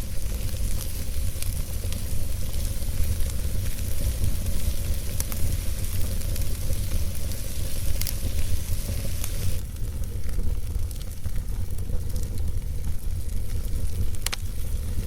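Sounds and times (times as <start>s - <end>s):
campfire hissing and sizzling: 0.0s - 15.0s
fire crackles and pops: 0.0s - 15.0s.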